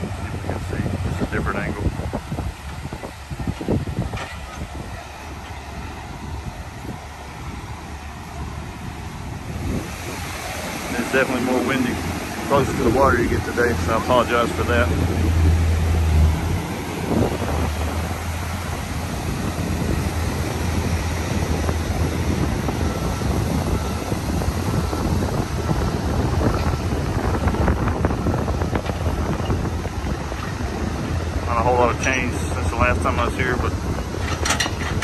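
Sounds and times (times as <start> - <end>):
surf hissing: 0.0 - 34.2
wind buffeting microphone: 0.0 - 35.0.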